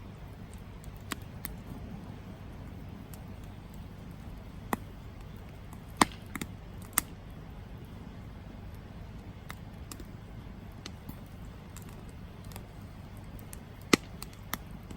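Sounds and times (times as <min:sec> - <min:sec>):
burning wood crackling and popping: 0:00.0 - 0:14.9
wood fire rumbling: 0:00.0 - 0:14.9.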